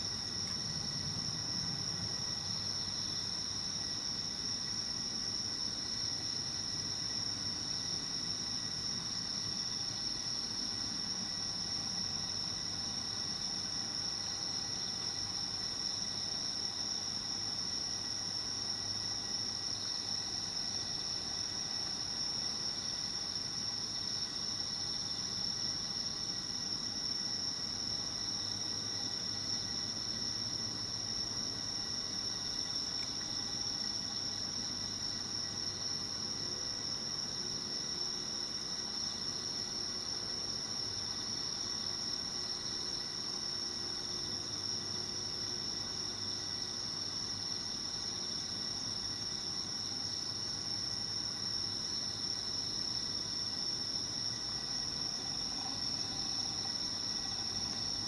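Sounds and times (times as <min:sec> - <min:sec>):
night insects chorus: 0:00.0 - 0:58.0.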